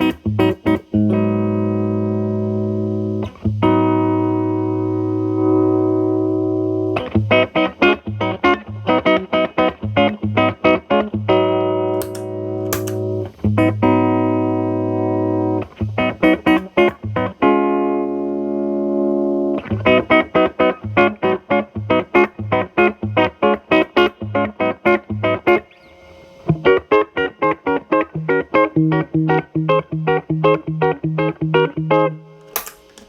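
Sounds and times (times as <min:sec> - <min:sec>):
distorted electric guitar chords: 0:00.0 - 0:33.0.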